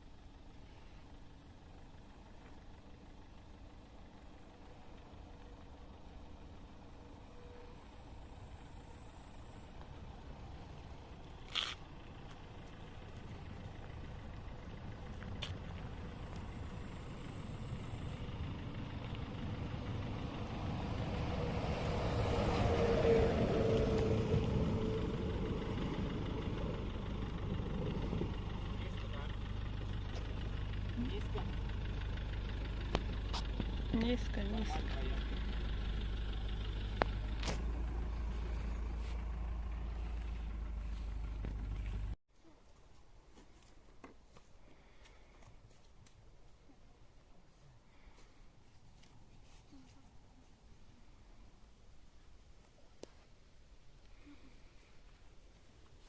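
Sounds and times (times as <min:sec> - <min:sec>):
car engine rumble: 0:00.0 - 0:42.2, 0:43.0 - 0:56.0
road noise: 0:00.0 - 0:42.2, 0:42.8 - 0:56.0.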